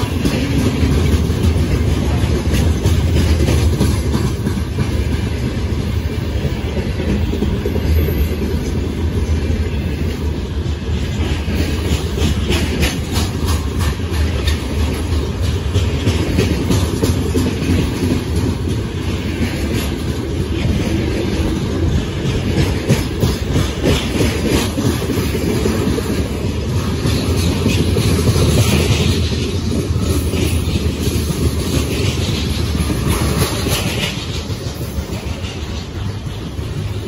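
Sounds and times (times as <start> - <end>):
clickety-clack over rail joints: 0.0 - 37.0
freight train wheels rumbling on rail: 0.0 - 37.0.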